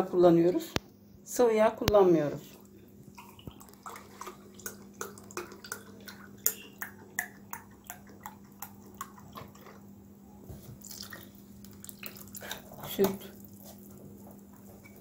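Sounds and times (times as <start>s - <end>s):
water dripping: 1.9s - 9.9s, 10.8s - 15.0s.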